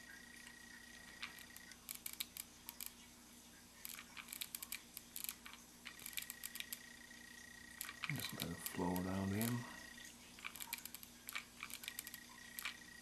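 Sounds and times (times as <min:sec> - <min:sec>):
small sharp clicks and ticks: 0:00.0 - 0:03.1, 0:03.8 - 0:07.0, 0:07.6 - 0:13.0
faint high whine: 0:00.0 - 0:13.0.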